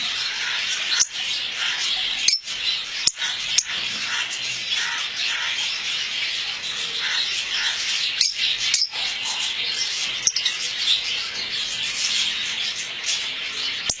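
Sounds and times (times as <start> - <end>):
lovebirds chattering: 0.0 - 14.0.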